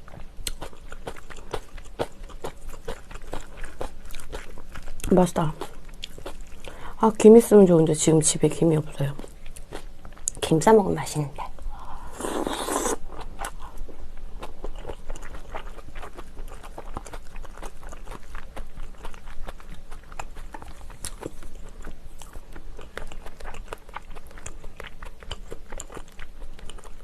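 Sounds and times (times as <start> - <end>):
person chewing food: 0.0 - 6.8, 9.1 - 10.4, 11.8 - 27.0.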